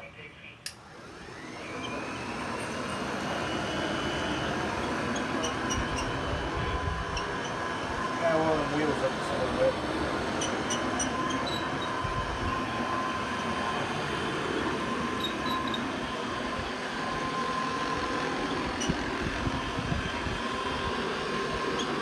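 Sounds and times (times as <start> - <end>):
upright vacuum cleaner running: 0.7 - 22.0.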